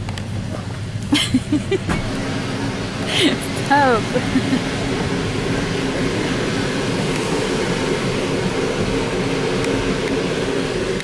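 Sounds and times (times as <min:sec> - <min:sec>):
train running inside carriage: 0:00.0 - 0:11.0.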